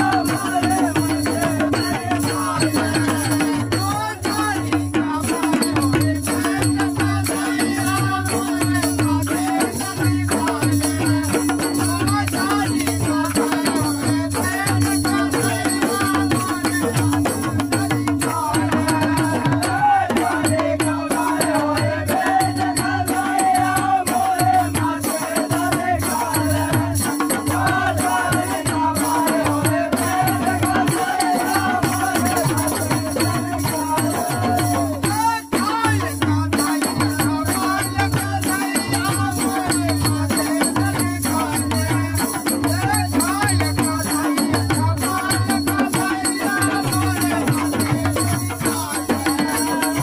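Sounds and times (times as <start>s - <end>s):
jingling hand clappers: 0.0s - 50.0s
men singing folk song: 0.0s - 50.0s.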